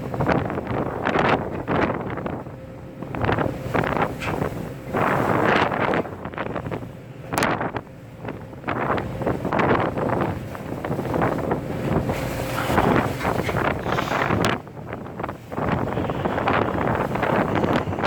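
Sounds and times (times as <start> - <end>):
wind buffeting microphone: 0.0 - 18.0
waves and spray rushing: 2.9 - 18.0.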